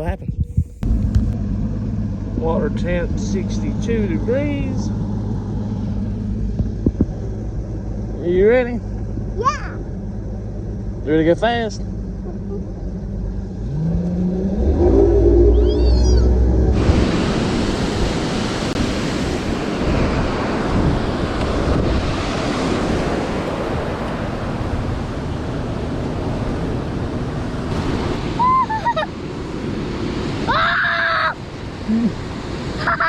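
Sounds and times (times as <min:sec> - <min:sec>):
wind buffeting microphone: 0:00.0 - 0:11.1, 0:12.9 - 0:30.5
water rushing against hull: 0:00.0 - 0:33.0.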